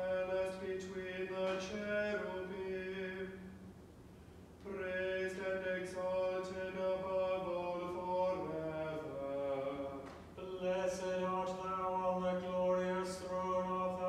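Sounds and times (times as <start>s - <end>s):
man chanting: 0.0s - 3.5s, 4.6s - 14.0s.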